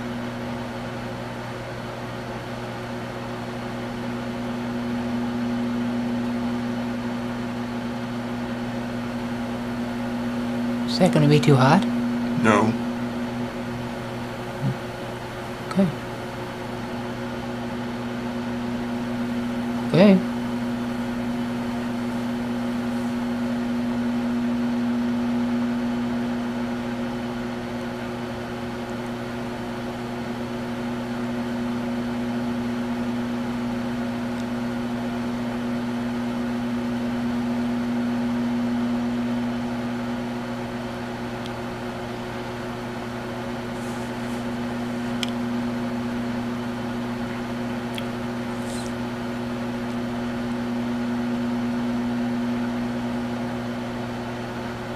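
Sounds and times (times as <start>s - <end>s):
microwave oven humming: 0.0s - 54.9s.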